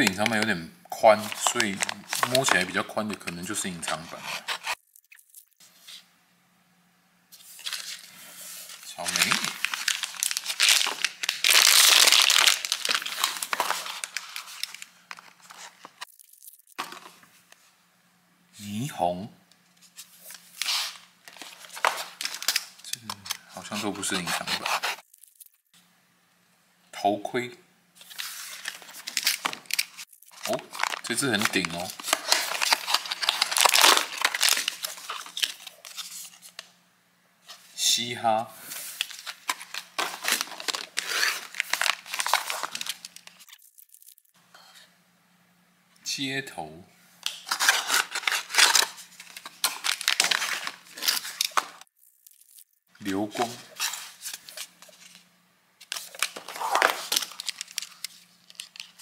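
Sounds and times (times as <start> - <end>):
plastic wrapping crinkling: 0.0 - 5.6, 7.4 - 17.2, 19.8 - 25.6, 28.0 - 36.7, 38.7 - 44.4, 47.2 - 59.0.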